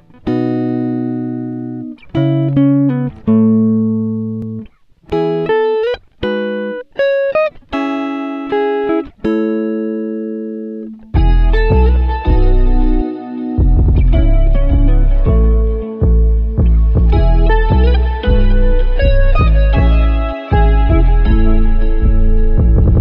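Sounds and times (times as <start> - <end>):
plucked string music: 0.0 - 23.0.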